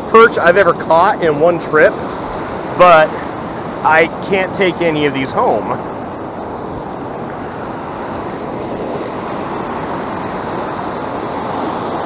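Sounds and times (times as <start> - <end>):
ocean surf washing in: 0.0 - 12.0
wind on microphone: 0.0 - 12.0.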